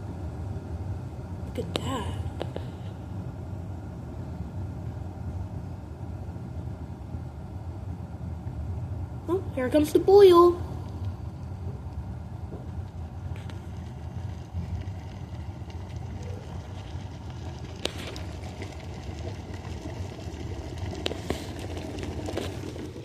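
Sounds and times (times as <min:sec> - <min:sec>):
water boiling in kettle: 0:00.0 - 0:23.0.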